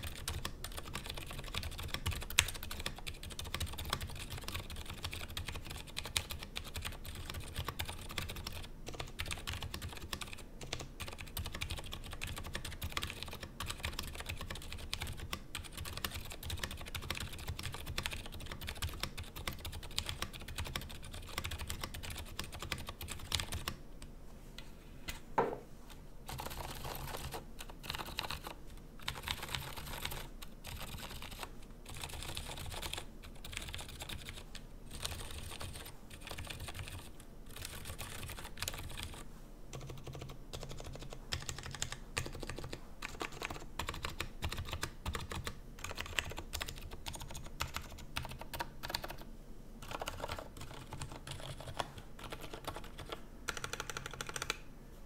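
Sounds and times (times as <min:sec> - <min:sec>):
mechanical keyboard typing: 0:00.0 - 0:23.8, 0:26.3 - 0:54.6.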